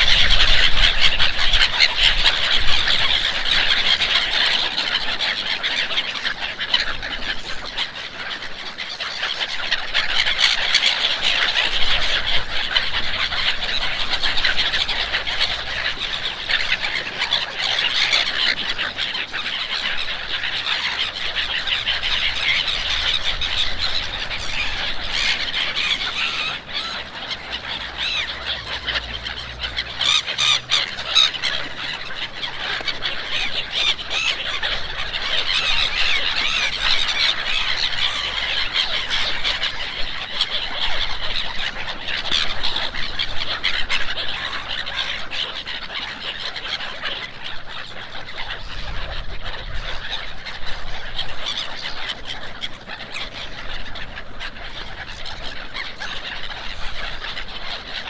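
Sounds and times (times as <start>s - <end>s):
gulls squealing calls: 0.0s - 58.0s.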